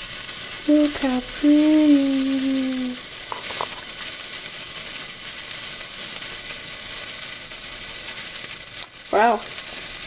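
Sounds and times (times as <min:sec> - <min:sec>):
sparkler fizzing and crackling: 0:00.0 - 0:10.0.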